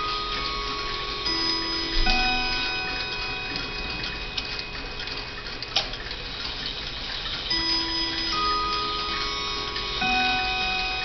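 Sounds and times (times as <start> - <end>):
clock chime ringing: 0.0 - 11.0
clock ticking: 0.0 - 11.0.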